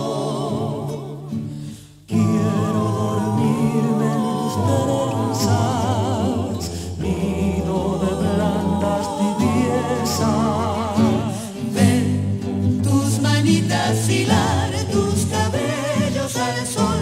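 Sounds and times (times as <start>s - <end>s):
mixed choir singing in harmony: 0.0s - 17.0s.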